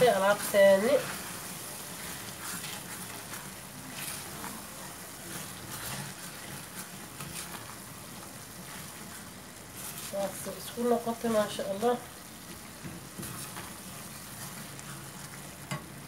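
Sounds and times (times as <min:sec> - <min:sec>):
spatula scraping a pan: 0:00.0 - 0:15.9
curry sizzling in a pan: 0:00.0 - 0:16.0.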